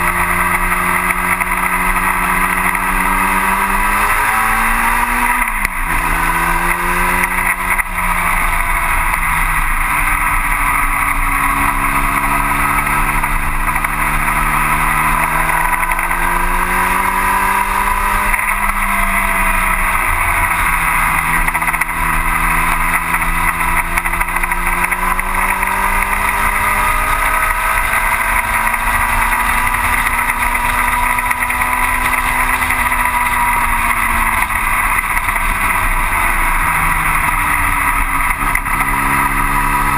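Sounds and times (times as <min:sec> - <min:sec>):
racing car engine revving: 0:00.0 - 0:39.9
steady rush of noise: 0:00.0 - 0:39.9.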